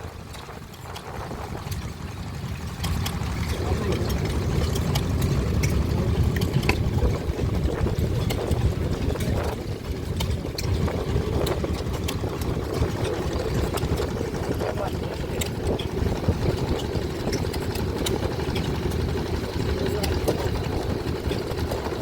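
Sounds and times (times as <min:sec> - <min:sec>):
engines rumbling: 0:00.0 - 0:22.0.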